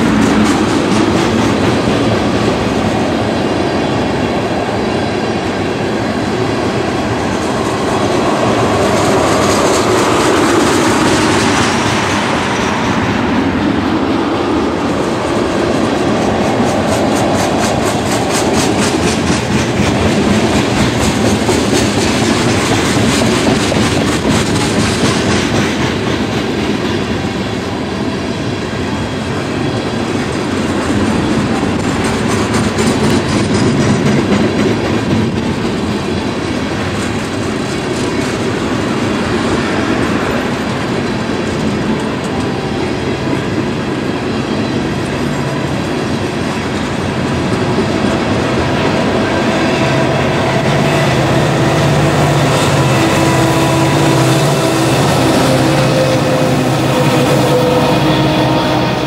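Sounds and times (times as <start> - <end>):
diesel locomotive drone: 0.0 - 59.0.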